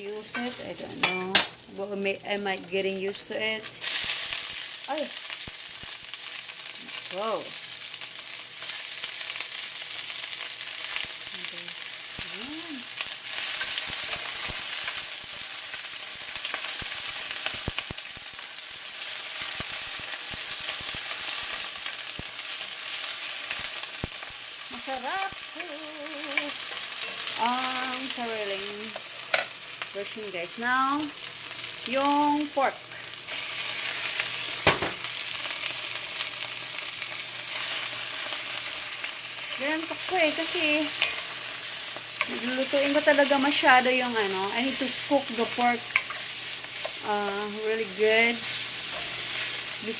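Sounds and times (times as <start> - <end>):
garlic sizzling in oil: 0.0 - 49.9.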